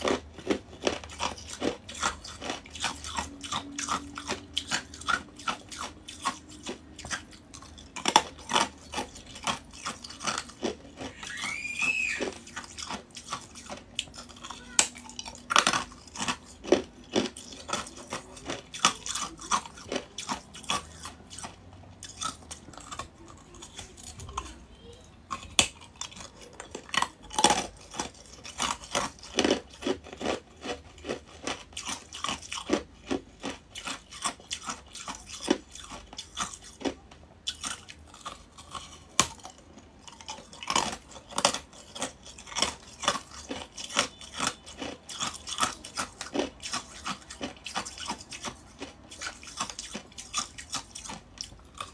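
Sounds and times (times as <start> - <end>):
ice crunching being chewed: 0.0 - 51.9.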